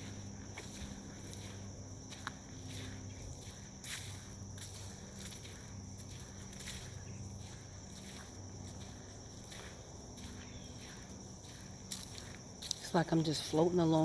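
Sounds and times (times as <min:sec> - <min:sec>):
footsteps on sandy dirt path: 0:00.0 - 0:14.0
high insect trill: 0:00.0 - 0:14.0.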